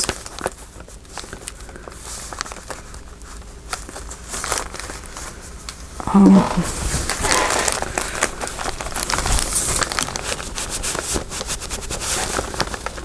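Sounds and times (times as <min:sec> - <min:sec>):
crinkling and rustling materials: 0:00.0 - 0:13.0.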